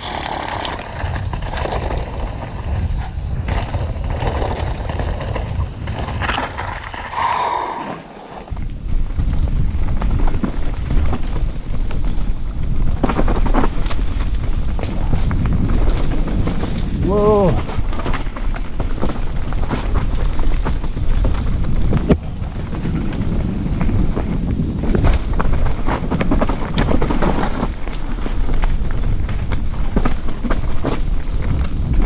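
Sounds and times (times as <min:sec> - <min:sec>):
mountain bike rattle and tyre noise: 0:00.0 - 0:32.0
wind noise on microphone: 0:00.0 - 0:32.0.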